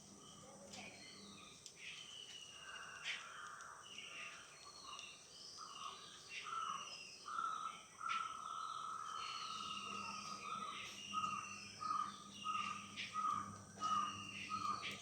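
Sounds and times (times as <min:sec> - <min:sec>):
birds calling and chirping: 0:00.0 - 0:15.0.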